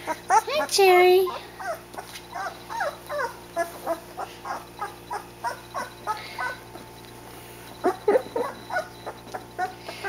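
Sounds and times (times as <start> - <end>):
puppy whimpering: 0.0 - 6.9, 7.6 - 10.0.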